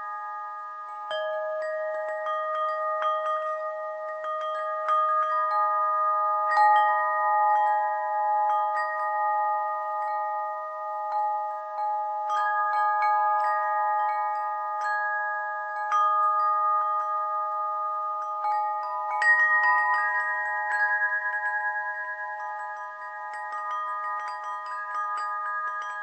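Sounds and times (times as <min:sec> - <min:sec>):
metal chimes ringing: 0:00.0 - 0:26.0.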